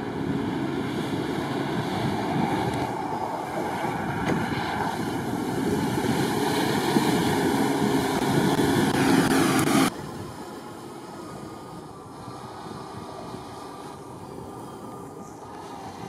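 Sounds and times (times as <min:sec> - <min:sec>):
suv engine running: 0:00.0 - 0:16.0.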